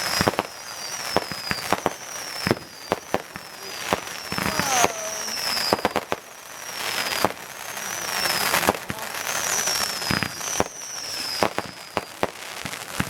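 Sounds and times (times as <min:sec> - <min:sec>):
fireworks banging: 0:00.0 - 0:13.0
fireworks crackling and hissing: 0:00.0 - 0:13.0
high-pitched firework whistles: 0:00.0 - 0:13.0.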